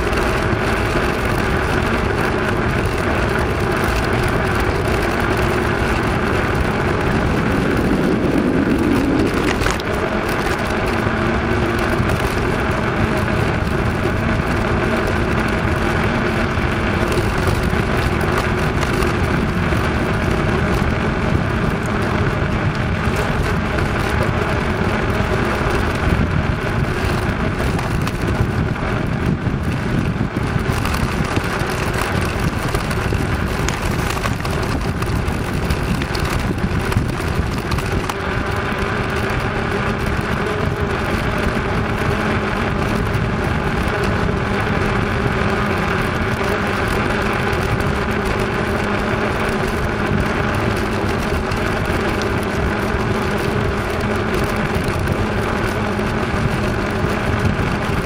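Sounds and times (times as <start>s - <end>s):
bicycle tyres rolling on concrete: 0.0s - 58.0s.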